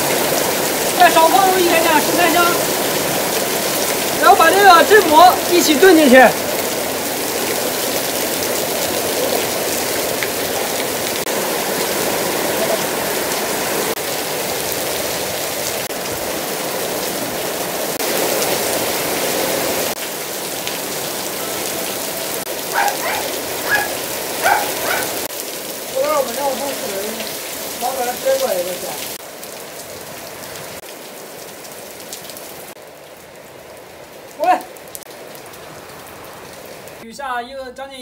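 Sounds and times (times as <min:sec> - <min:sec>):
heavy rain on pavement: 0:00.0 - 0:37.0.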